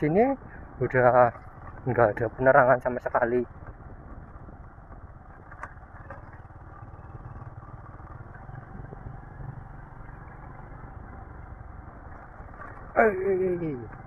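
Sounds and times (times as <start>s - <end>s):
motorcycle engine hum: 0.0s - 14.0s
road clatter: 0.0s - 14.0s.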